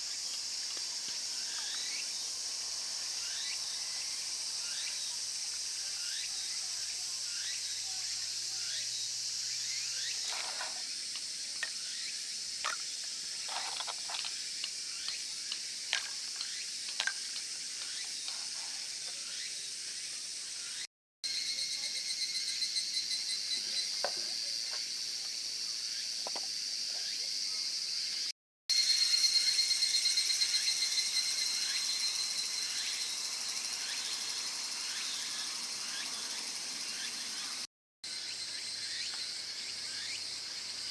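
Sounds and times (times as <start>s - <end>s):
high-pitched insect chorus: 0.0s - 40.9s
pulsing insect trill: 0.0s - 40.9s.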